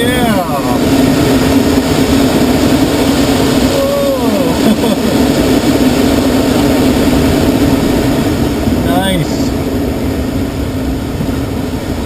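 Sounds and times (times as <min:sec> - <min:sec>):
constant low hum: 0:00.0 - 0:12.0
rush of air: 0:00.0 - 0:12.0.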